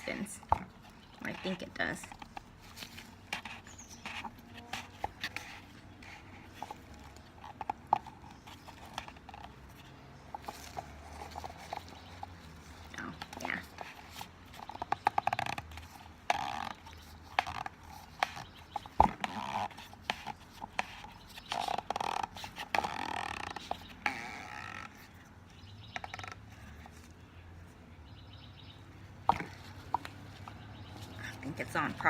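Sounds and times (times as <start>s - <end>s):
oil filter clicking and scraping: 0.0s - 27.4s, 28.5s - 32.0s.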